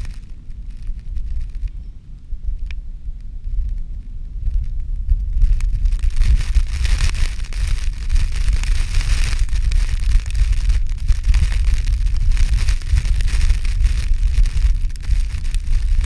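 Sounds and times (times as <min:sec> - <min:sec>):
hiss of wind-blown ice: 0:00.0 - 0:16.0
wind buffeting microphone: 0:00.0 - 0:16.0.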